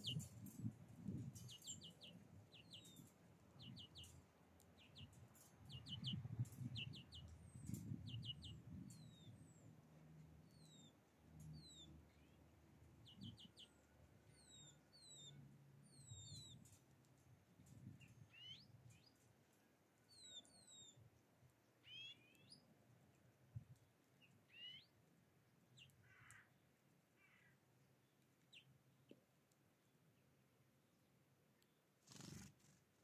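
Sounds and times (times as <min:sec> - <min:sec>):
small birds chirping: 0:00.0 - 0:32.8.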